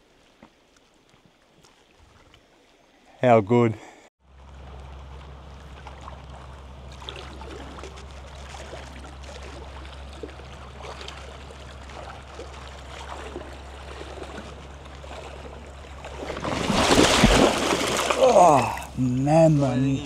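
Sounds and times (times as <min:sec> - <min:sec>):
creek water running over rocks: 0:00.0 - 0:03.0, 0:04.3 - 0:20.0.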